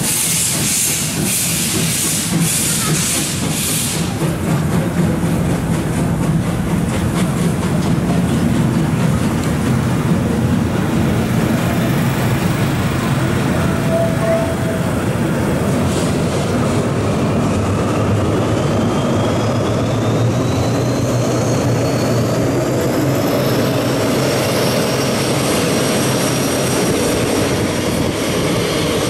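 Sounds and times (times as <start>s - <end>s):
diesel locomotive engines whining: 0.0s - 29.0s
passenger train rolling past: 0.0s - 29.0s.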